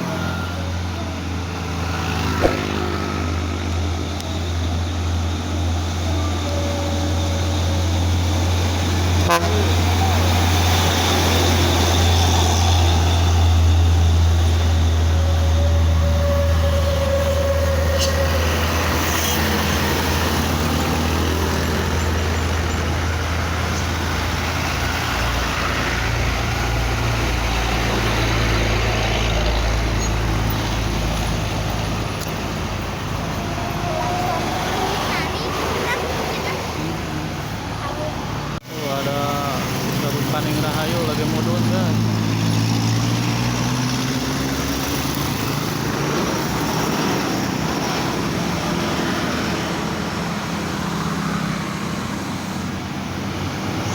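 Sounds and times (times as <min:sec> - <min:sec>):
truck diesel engine under load: 0:00.0 - 0:53.9.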